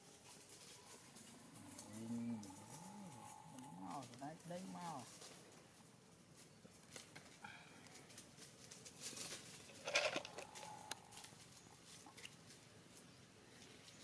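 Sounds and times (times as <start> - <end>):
monkeys rustling: 0.0 - 14.0.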